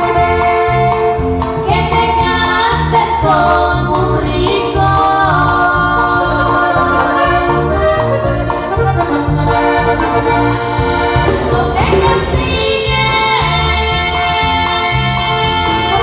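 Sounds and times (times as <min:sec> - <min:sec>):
live band dance music: 0:00.0 - 0:16.0.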